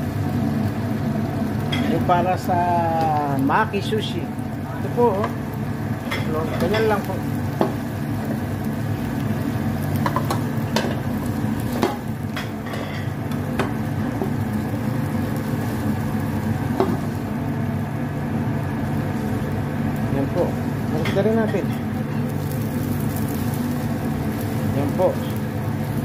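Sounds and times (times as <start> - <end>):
eggs sizzling in frying pan: 0.0 - 26.0
steady low hum: 0.0 - 26.0.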